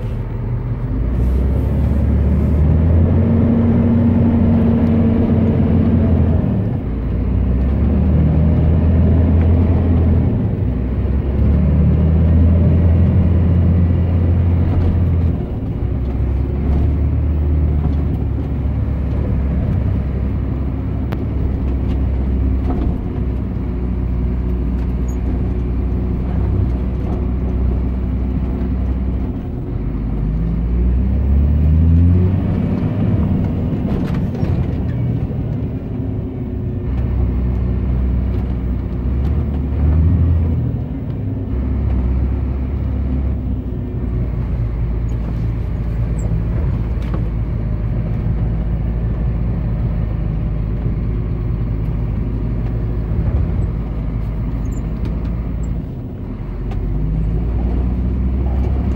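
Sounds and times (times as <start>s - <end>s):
truck diesel engine: 0.0s - 58.9s.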